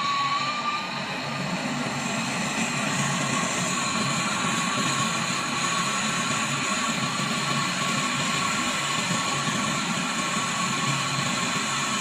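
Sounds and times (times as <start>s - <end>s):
machine running with high whine: 0.0s - 12.0s.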